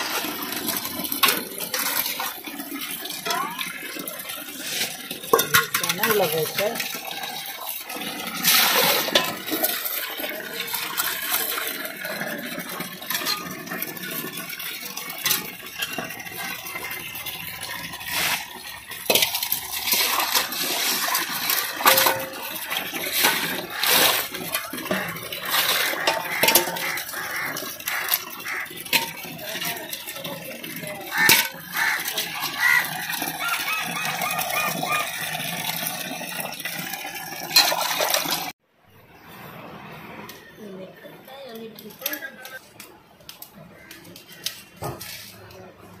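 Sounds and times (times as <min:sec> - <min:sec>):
water sloshing and splashing: 0:00.0 - 0:38.6.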